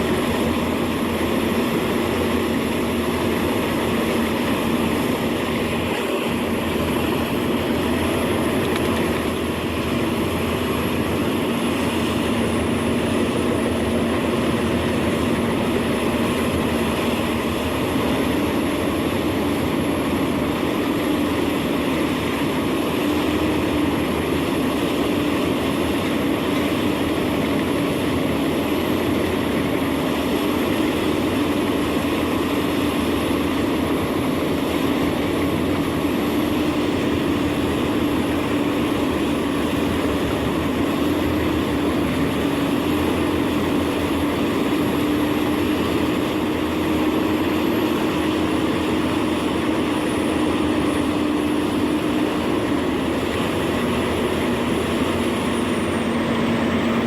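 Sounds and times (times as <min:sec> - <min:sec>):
faint high whine: 0:00.0 - 0:57.0
wood chipper droning: 0:00.0 - 0:57.0.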